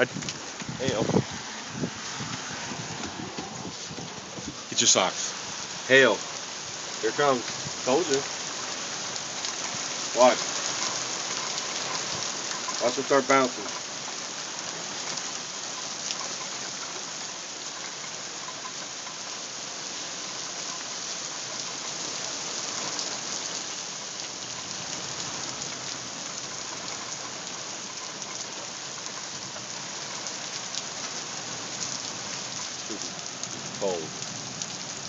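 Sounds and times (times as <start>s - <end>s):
hailstones ticking: 0.0s - 1.3s, 2.1s - 35.0s
rain and hail pelting: 0.0s - 35.0s.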